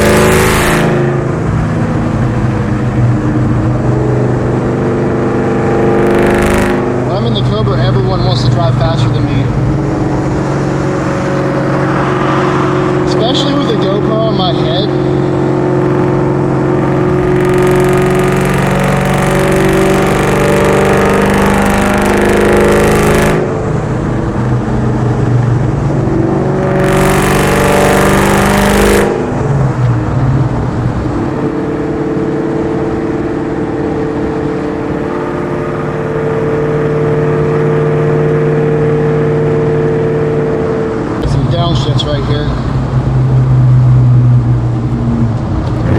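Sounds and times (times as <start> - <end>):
car engine running on road: 0.0 - 45.9.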